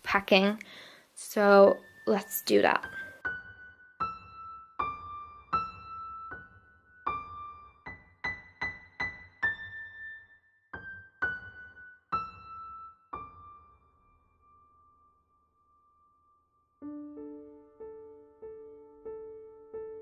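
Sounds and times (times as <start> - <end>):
slow electric piano melody: 2.8 - 20.0.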